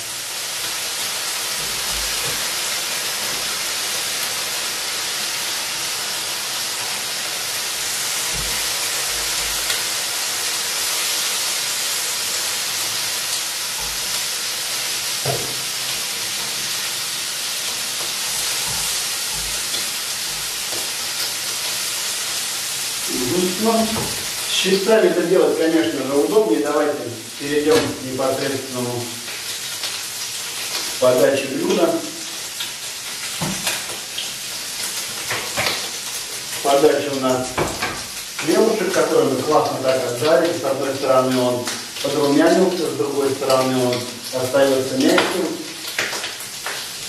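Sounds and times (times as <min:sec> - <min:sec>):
bacon sizzling in a frying pan: 0:00.0 - 0:47.0.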